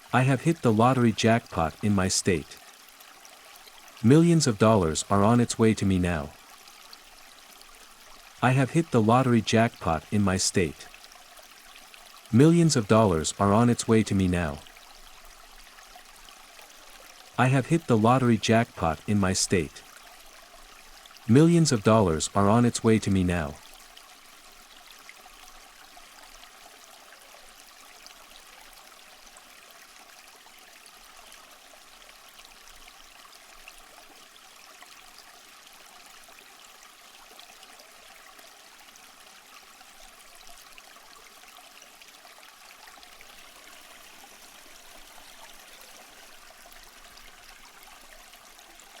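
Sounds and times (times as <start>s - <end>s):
stream water flowing: 0.0s - 49.0s.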